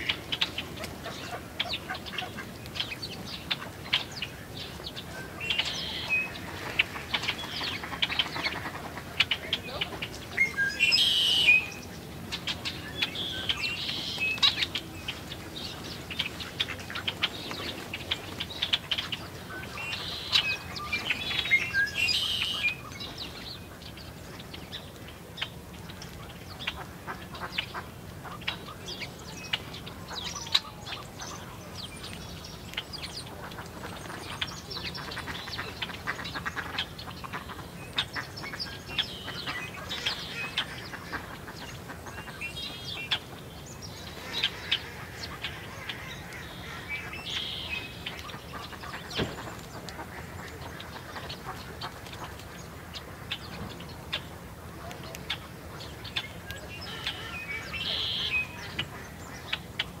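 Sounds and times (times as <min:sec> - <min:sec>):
songbirds chirping: 0:00.0 - 1:00.0.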